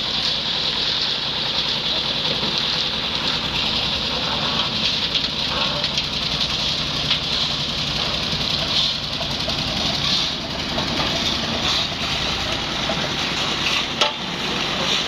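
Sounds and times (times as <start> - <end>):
concrete mixer running: 0.0 - 15.0.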